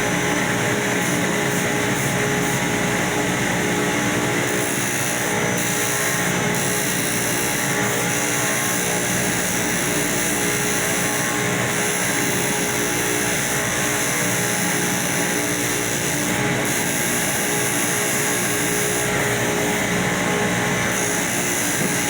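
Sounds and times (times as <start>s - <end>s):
electric sander running: 0.0s - 22.0s.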